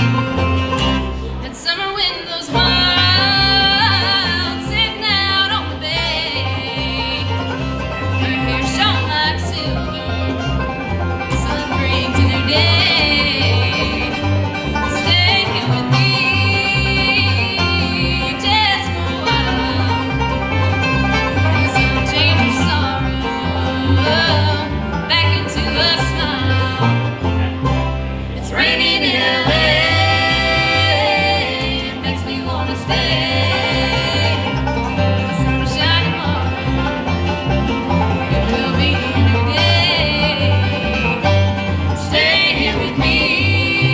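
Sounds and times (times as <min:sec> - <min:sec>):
acoustic guitar: 0:00.0 - 0:43.9
banjo: 0:00.0 - 0:43.9
mandolin: 0:00.0 - 0:43.9
upright bass: 0:00.0 - 0:43.9
woman singing: 0:01.4 - 0:10.5, 0:11.3 - 0:14.2, 0:14.8 - 0:20.3, 0:21.5 - 0:27.0, 0:28.4 - 0:34.6, 0:35.3 - 0:36.6, 0:38.4 - 0:41.3, 0:42.0 - 0:43.9.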